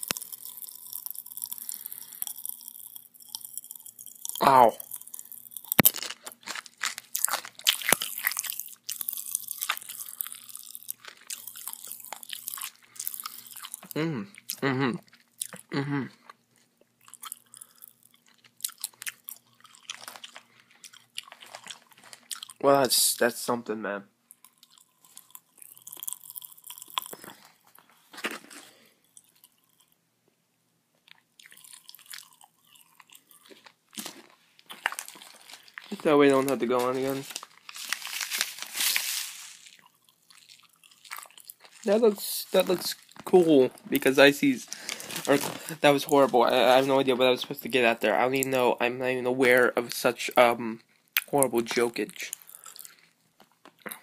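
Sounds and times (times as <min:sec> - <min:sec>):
candy crackling in mouth: 0:00.0 - 0:22.7, 0:24.3 - 0:30.0, 0:31.1 - 0:54.0.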